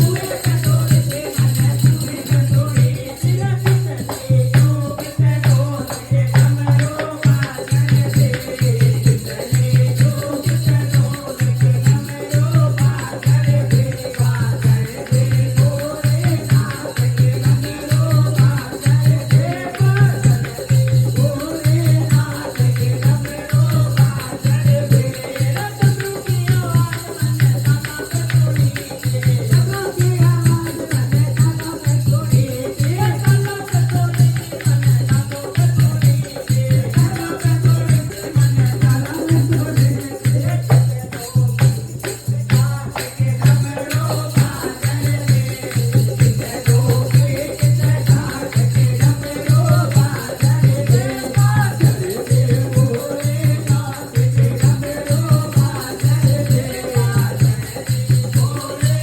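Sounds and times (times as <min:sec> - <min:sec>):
jingling percussion: 0:00.0 - 0:59.0.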